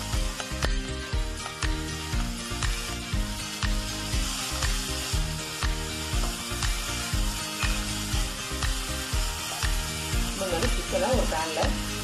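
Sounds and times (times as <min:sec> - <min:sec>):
background music with steady beat: 0:00.0 - 0:12.0
chicken sizzling in hot oil: 0:00.0 - 0:12.0.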